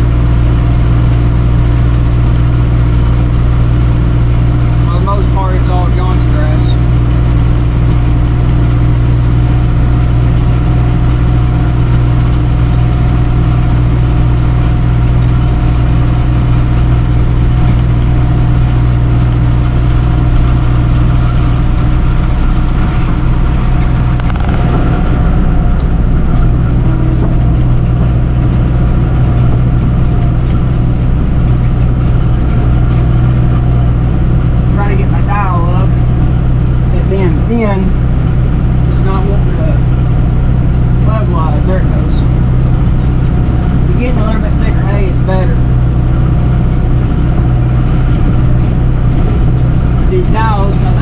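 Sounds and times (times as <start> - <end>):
baler working: 0.0 - 51.0
machinery clatter: 0.0 - 51.0
tractor engine under load: 0.0 - 51.0.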